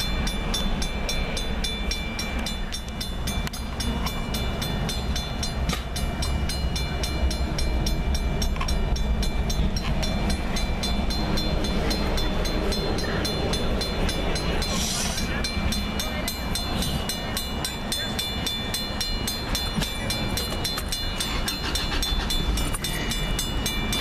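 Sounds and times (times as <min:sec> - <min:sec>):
freight train rolling rumble: 0:00.0 - 0:24.0
railroad crossing bell ringing: 0:00.0 - 0:24.0.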